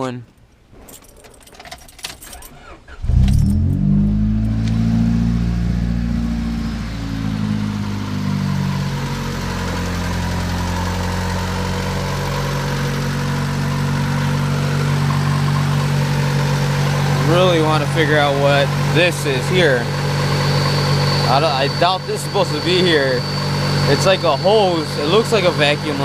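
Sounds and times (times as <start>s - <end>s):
car engine idling: 1.0s - 26.0s.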